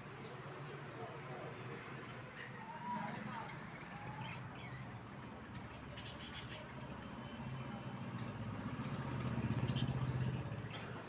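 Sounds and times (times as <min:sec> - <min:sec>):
birds chirping: 0:00.0 - 0:07.4, 0:08.2 - 0:11.0.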